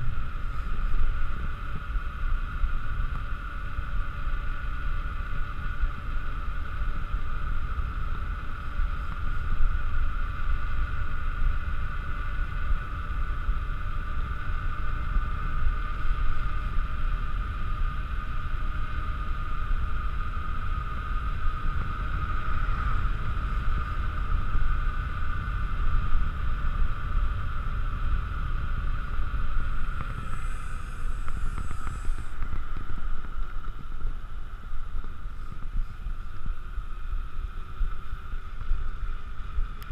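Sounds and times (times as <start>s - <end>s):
whirr of rolling bike wheels: 0.0s - 39.9s
wind rushing over microphone: 0.0s - 39.9s.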